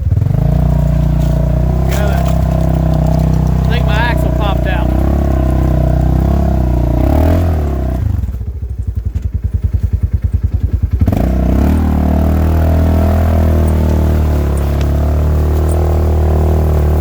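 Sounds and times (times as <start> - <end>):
side-by-side engine running: 0.0 - 17.0.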